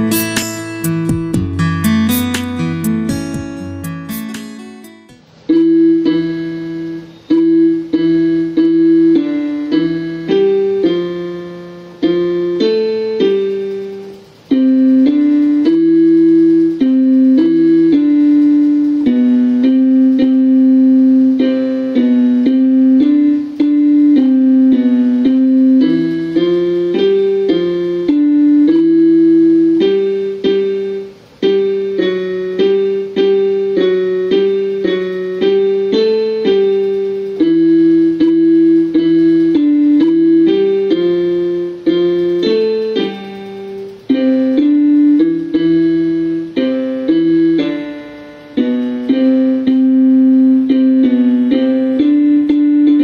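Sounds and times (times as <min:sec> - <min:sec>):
electronic keyboard piano melody: 0:00.0 - 0:53.0.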